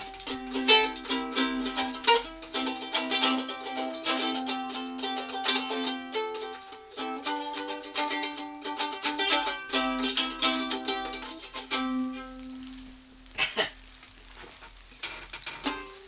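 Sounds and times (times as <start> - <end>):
ukulele strumming chords: 0.0 - 13.3, 15.6 - 16.0.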